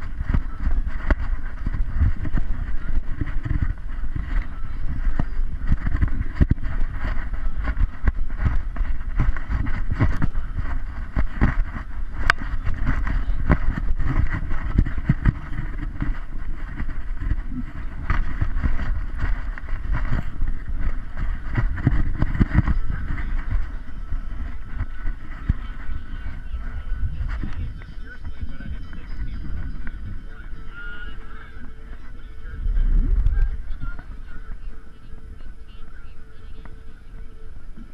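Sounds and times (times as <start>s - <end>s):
muffled rumbling and rubbing: 0.0s - 37.9s.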